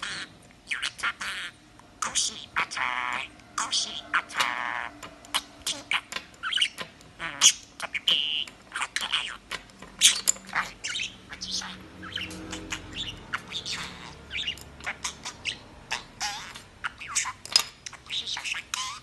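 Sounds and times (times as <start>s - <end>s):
budgerigar chattering: 0.0s - 19.0s.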